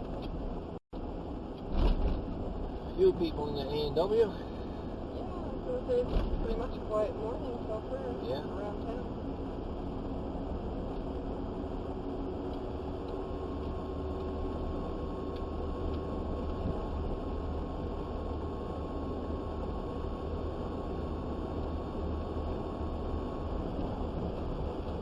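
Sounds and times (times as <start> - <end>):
road noise: 0.0 - 25.0
truck engine drone: 0.0 - 25.0.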